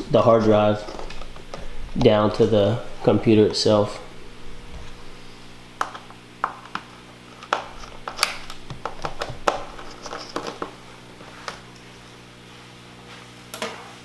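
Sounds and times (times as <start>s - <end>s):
steady low hum: 0.0s - 13.8s
small parts being handled: 0.1s - 12.0s.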